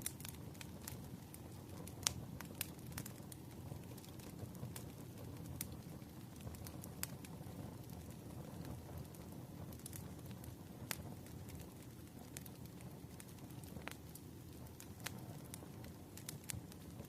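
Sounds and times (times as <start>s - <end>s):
fire crackling: 0.0s - 17.0s
soft rain: 0.0s - 17.0s.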